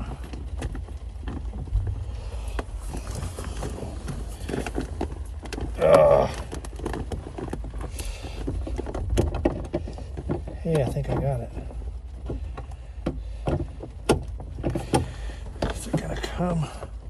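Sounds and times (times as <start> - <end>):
knocks and rattles in car door: 0.0 - 17.0.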